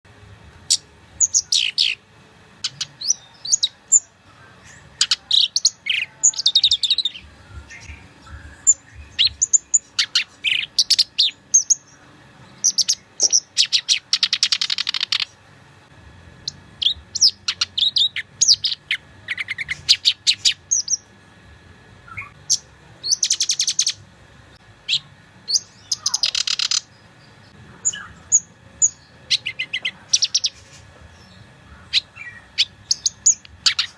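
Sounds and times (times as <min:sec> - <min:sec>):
warbler singing: 0:00.6 - 0:15.4, 0:16.4 - 0:21.1, 0:22.0 - 0:33.9
rapid bird trills: 0:00.6 - 0:15.5, 0:16.4 - 0:21.2, 0:22.1 - 0:24.1, 0:24.8 - 0:33.9.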